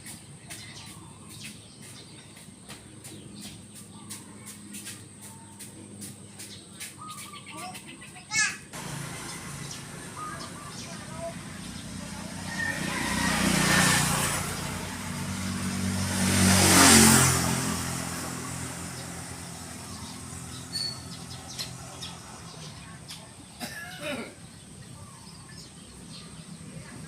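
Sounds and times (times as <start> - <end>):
motor vehicle passing by: 0.0 - 23.6, 24.4 - 27.0.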